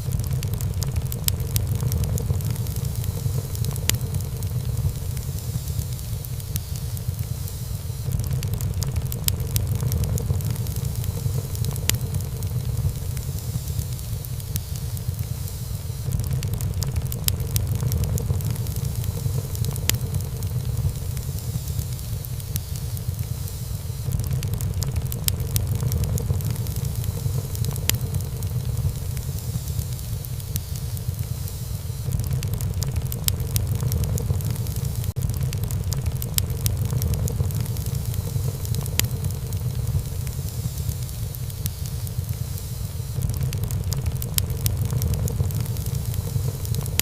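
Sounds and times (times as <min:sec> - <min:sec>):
low rumble of flames: 0:00.0 - 0:47.0
wood fire crackling: 0:00.0 - 0:47.0.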